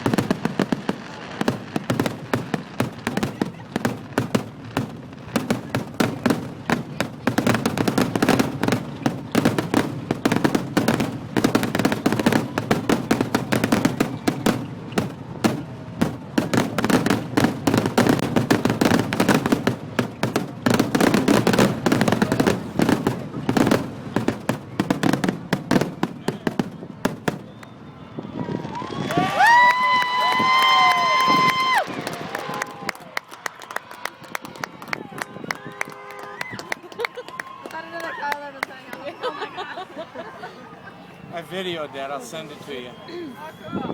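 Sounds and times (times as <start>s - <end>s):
fireworks bangs: 0.0s - 33.0s, 33.9s - 43.9s.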